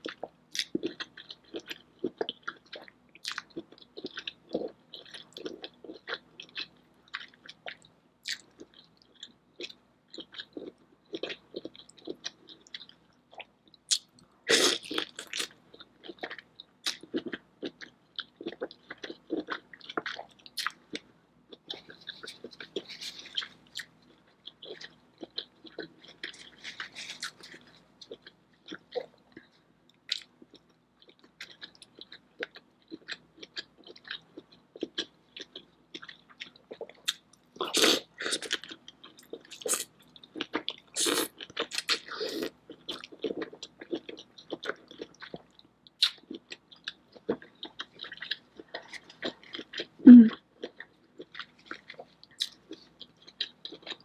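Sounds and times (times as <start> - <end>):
wet chewing and biting: 0.0 - 29.5, 30.1 - 50.0.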